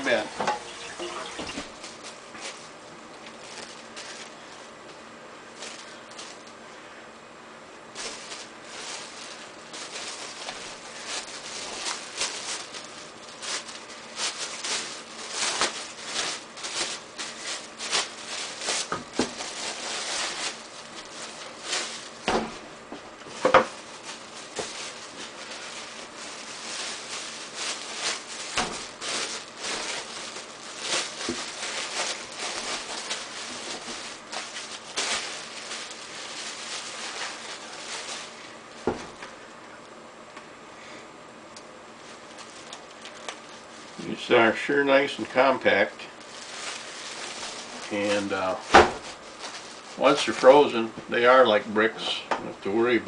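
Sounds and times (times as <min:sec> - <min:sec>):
plastic bags crinkling: 0:00.0 - 0:04.9, 0:05.5 - 0:06.6, 0:07.9 - 0:22.4, 0:23.2 - 0:39.4, 0:41.9 - 0:50.8.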